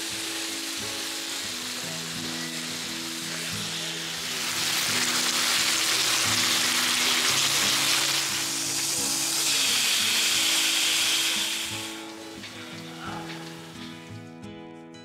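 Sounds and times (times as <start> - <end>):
meat sizzling in a frying pan: 0.0 - 14.1
background music: 0.0 - 15.0.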